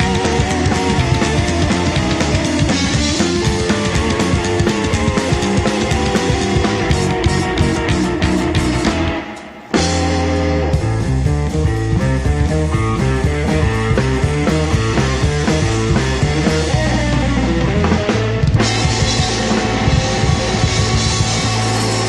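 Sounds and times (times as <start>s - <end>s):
rockabilly band playing: 0.0s - 22.0s.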